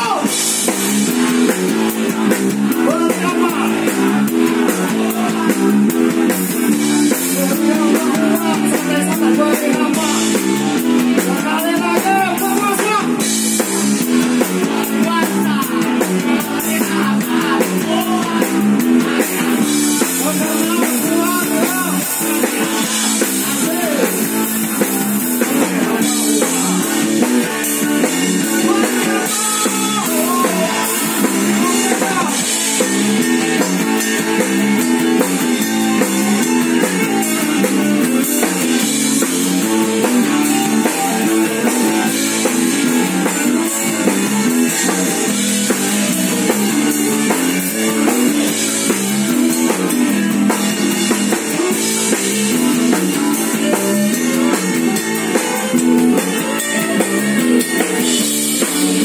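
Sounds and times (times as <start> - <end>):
loud drum kit: 0.0 - 59.0
rock band playing live: 0.0 - 59.0.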